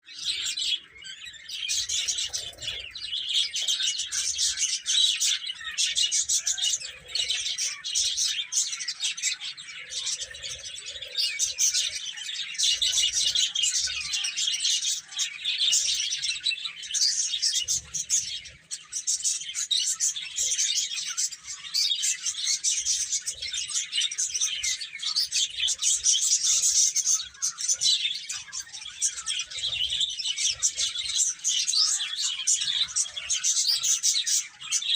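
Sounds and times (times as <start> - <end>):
baby chicks cheeping: 0.0 - 34.9.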